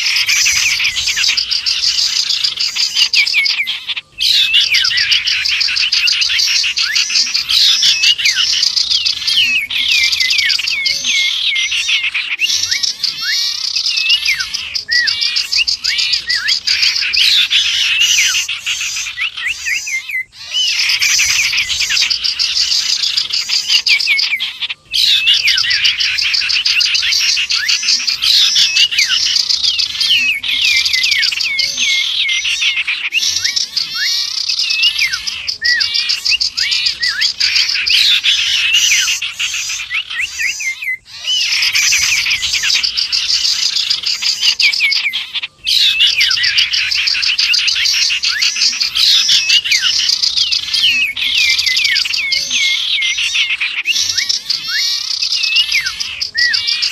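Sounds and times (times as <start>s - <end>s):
bird whistled glides: 0.0s - 56.9s
small birds chirping: 0.0s - 56.9s.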